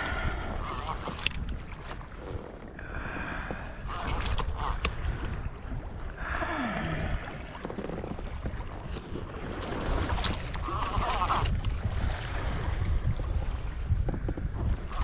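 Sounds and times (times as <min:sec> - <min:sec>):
water moving around kayak: 0:00.0 - 0:15.0
wind on microphone: 0:00.0 - 0:15.0.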